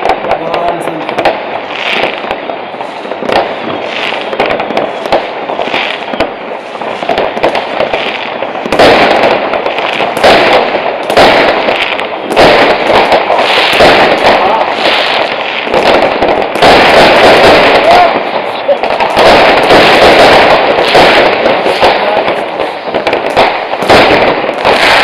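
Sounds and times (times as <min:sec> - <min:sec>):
firecrackers crackling: 0:00.0 - 0:25.0
firework rockets banging: 0:00.0 - 0:25.0.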